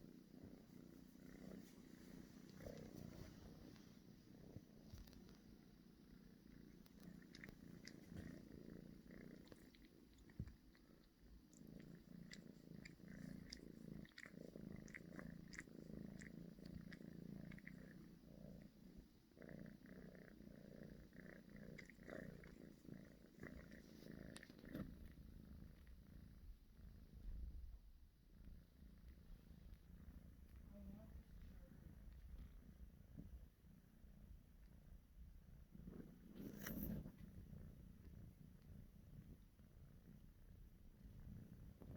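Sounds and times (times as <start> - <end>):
kitten purring: 0.0 - 41.9.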